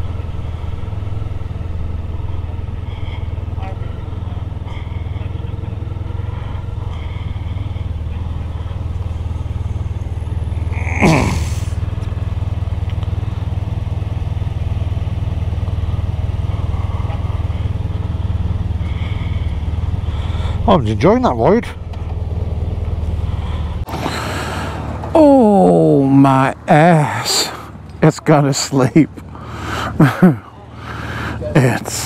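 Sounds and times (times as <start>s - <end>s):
motorcycle engine and wind rumble: 0.0s - 32.0s.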